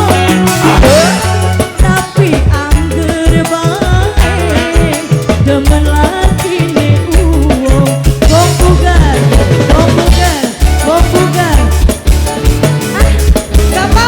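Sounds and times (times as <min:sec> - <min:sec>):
deep bass line: 0:00.0 - 0:14.0
drums keeping a steady beat: 0:00.0 - 0:14.0.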